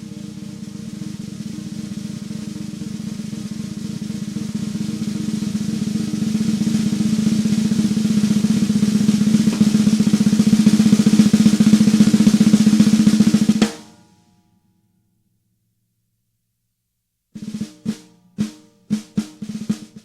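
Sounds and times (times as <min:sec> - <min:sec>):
snare drum roll: 0:00.0 - 0:14.0, 0:17.4 - 0:20.0.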